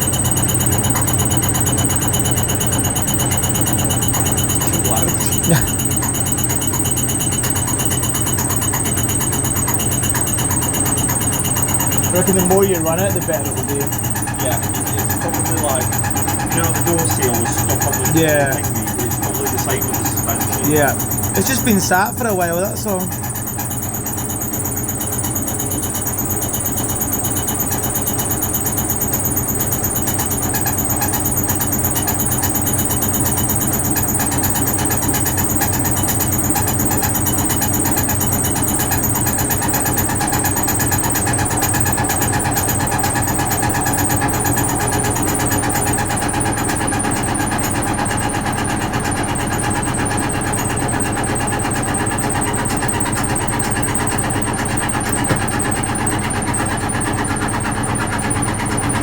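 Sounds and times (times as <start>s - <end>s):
washing machine humming and whirring: 0.0s - 59.0s.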